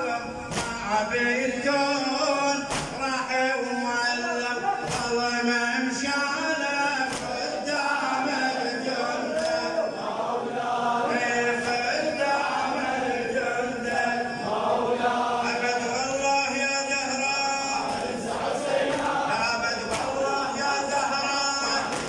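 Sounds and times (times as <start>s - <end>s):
men chanting together: 0.0s - 22.0s.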